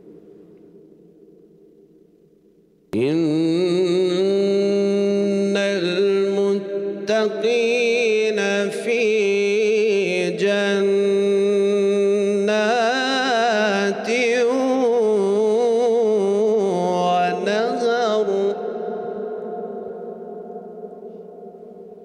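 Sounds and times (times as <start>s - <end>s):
man chanting melodically: 3.0s - 21.8s.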